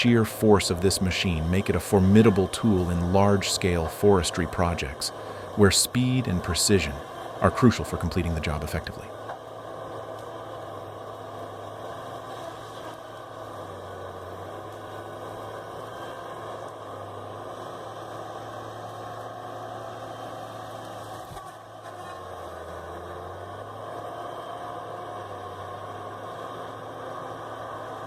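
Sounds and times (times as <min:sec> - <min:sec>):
heavy machine engine humming: 0:00.0 - 0:28.0.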